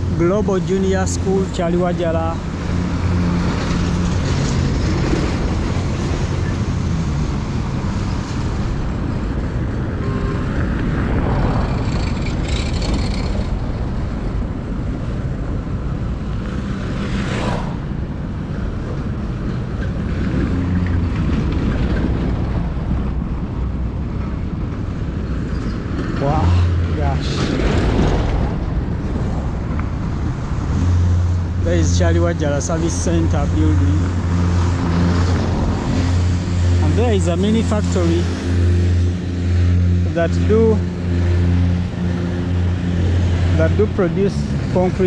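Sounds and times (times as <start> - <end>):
passing vehicles rushing: 0.0 - 45.0
wind and road noise: 0.0 - 45.0.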